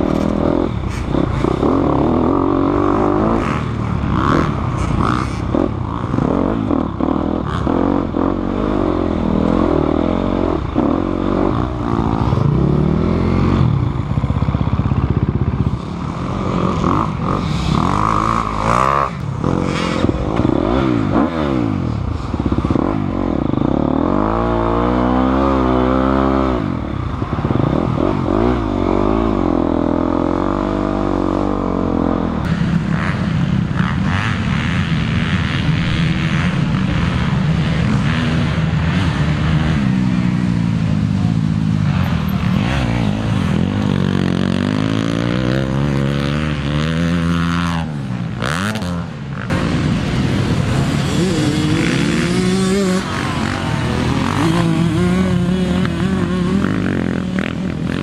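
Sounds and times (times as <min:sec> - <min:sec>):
dirt bike engine revving: 0:00.0 - 0:58.0
dirt bikes running around track: 0:00.0 - 0:58.0.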